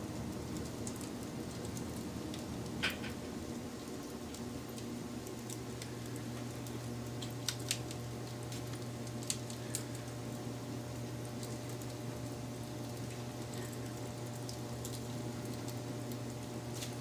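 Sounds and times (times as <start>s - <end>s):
steady low hum: 0.0s - 17.0s
wood fire crackling: 0.0s - 17.0s.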